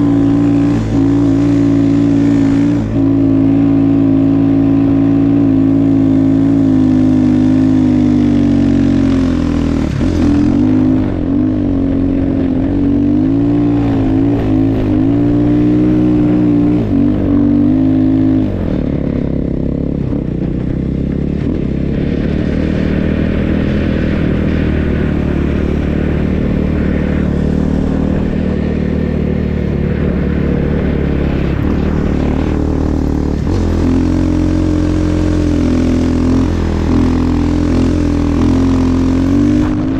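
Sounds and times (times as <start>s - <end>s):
snow bike engine revving: 0.0s - 39.9s.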